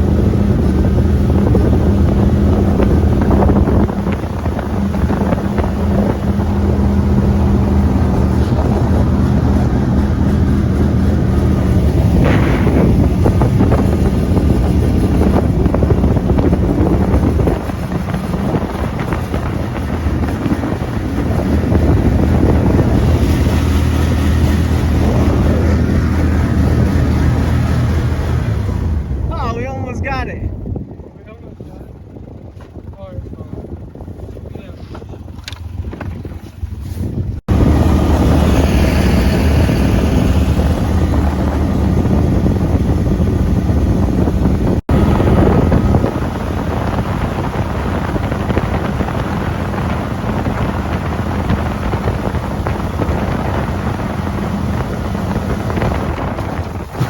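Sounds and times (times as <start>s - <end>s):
boat motor running: 0.0s - 57.0s
wind on microphone: 0.0s - 57.0s.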